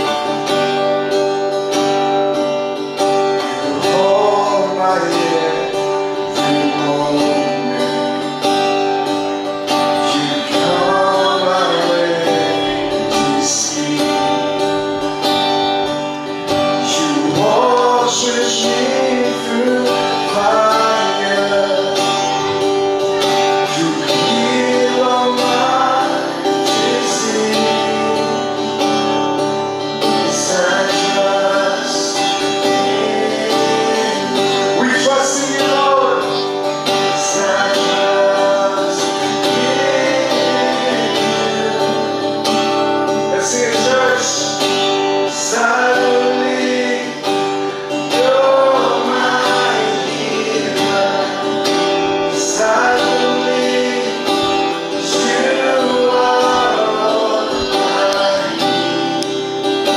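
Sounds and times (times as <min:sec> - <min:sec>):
guitar: 0:00.0 - 0:59.9
person singing: 0:03.1 - 0:59.9.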